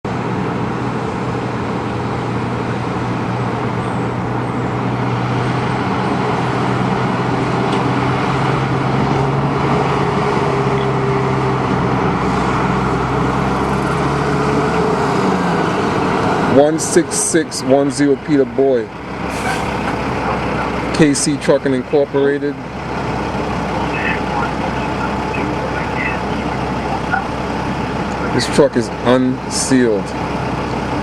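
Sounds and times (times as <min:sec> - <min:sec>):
road traffic noise: 0:00.0 - 0:31.0
vehicle engine humming: 0:00.0 - 0:31.0.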